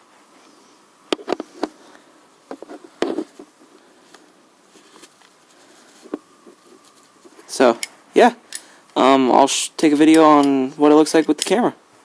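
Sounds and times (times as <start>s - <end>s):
faint steady buzz: 0.0s - 12.0s.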